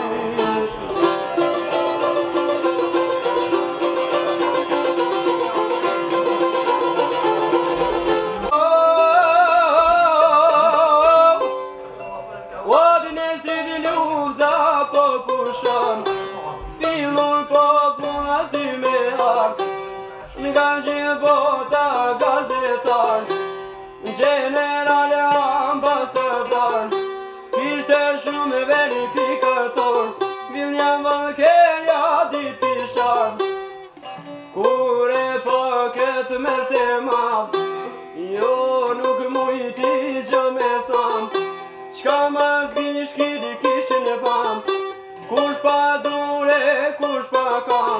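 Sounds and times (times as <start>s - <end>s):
plucked lute folk melody: 0.0s - 47.9s.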